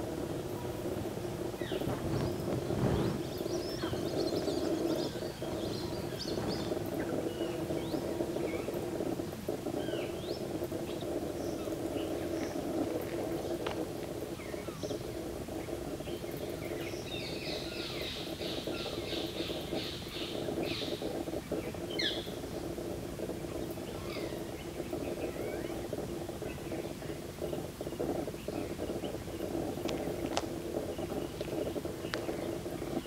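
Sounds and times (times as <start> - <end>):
steady low hum: 0.0 - 33.0
birds calling: 0.4 - 33.0.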